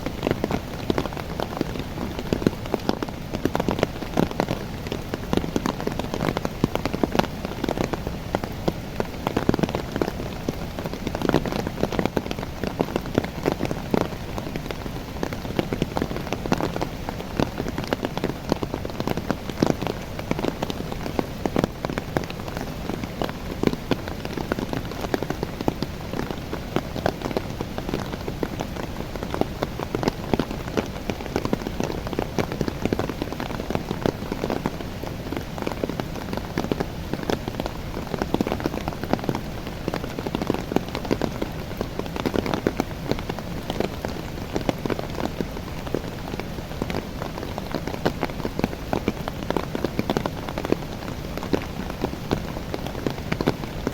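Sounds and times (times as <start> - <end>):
rain falling on leaves: 0.0 - 53.9.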